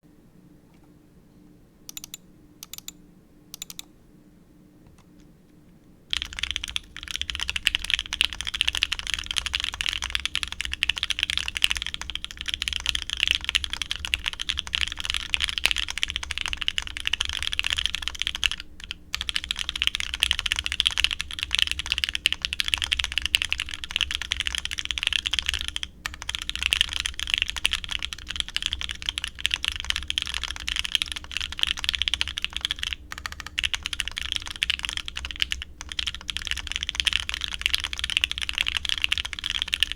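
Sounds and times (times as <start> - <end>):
mechanical keyboard typing: 1.9 - 3.0, 3.6 - 3.9, 6.1 - 39.9.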